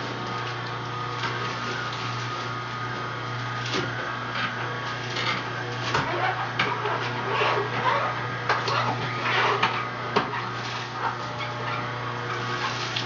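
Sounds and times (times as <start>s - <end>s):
juicer motor humming: 0.0s - 13.0s.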